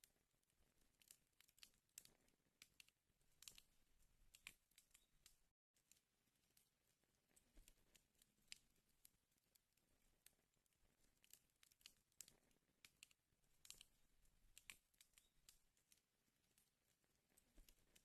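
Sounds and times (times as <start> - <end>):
wood fire crackling: 0.5 - 18.0.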